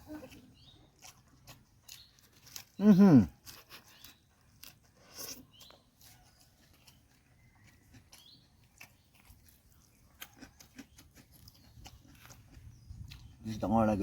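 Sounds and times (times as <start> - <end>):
person chewing: 0.0 - 13.6.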